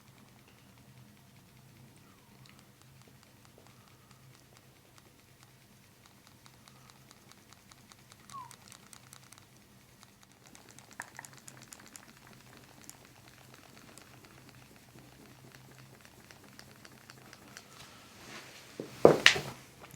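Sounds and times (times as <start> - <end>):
paper crinkling and ticking: 0.0 - 19.9.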